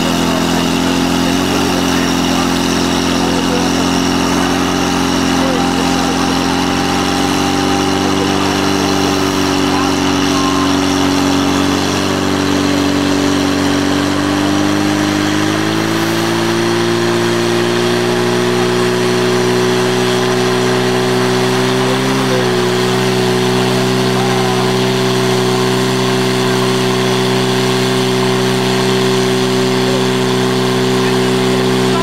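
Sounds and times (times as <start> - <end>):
pump engine running at high revs: 0.0 - 32.0.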